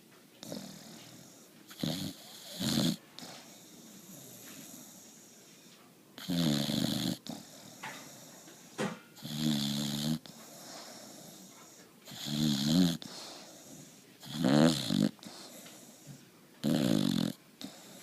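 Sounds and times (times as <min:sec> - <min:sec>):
puppy snoring: 0:00.4 - 0:18.0.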